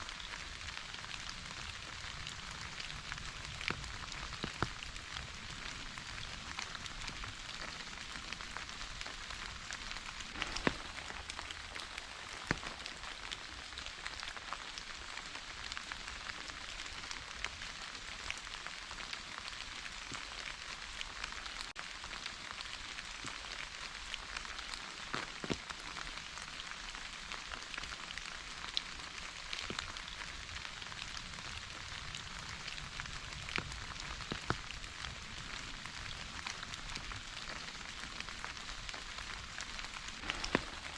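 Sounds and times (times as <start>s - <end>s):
rain drops ticking: 0.0s - 40.9s
steady rain hiss: 0.0s - 40.9s.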